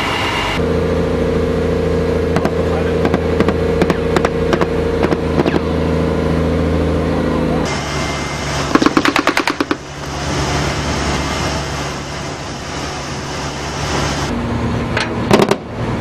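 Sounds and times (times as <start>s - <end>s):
water noise: 0.0s - 14.9s
boat engine running: 0.0s - 15.8s
wind: 0.0s - 16.0s.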